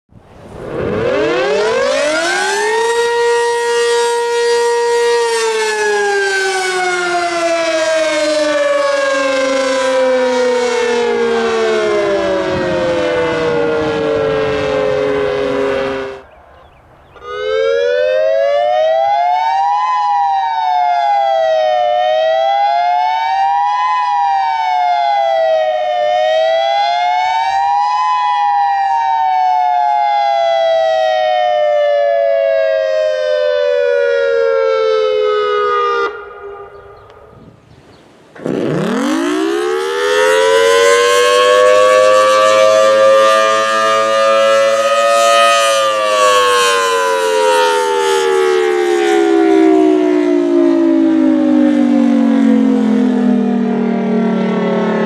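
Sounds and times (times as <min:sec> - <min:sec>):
two-tone electronic siren wail: 0:00.4 - 0:16.5, 0:17.2 - 0:37.6, 0:38.4 - 0:55.0
warning siren winding up: 0:00.6 - 0:16.3, 0:17.2 - 0:37.3, 0:38.3 - 0:55.0.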